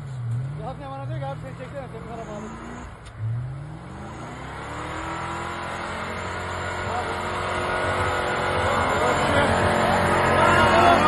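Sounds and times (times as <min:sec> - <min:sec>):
suv engine revving under load: 0:00.0 - 0:11.0.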